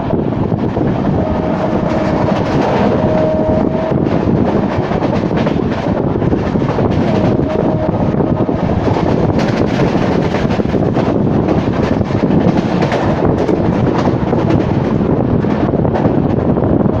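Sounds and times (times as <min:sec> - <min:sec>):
train wheels rumbling on track: 0:00.0 - 0:17.0
wind on microphone: 0:00.0 - 0:17.0.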